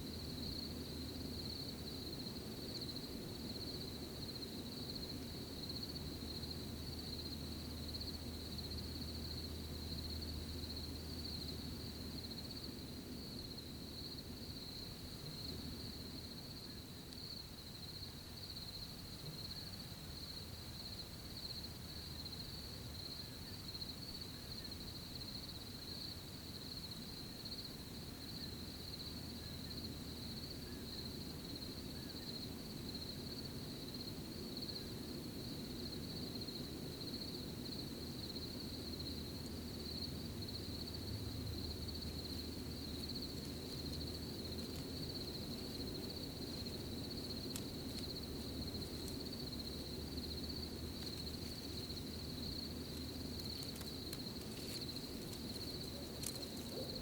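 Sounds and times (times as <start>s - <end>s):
crickets chirping: 0.0s - 57.0s
faint low hum: 0.0s - 57.0s.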